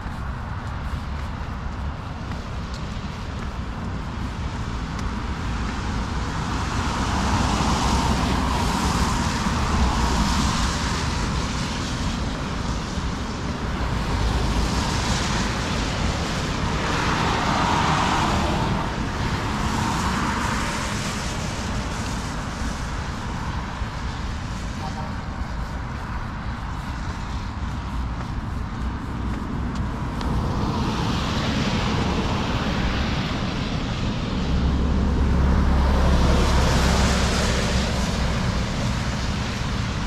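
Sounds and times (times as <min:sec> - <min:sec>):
cars passing by: 0:00.0 - 0:40.0
steady traffic hum: 0:00.0 - 0:40.0.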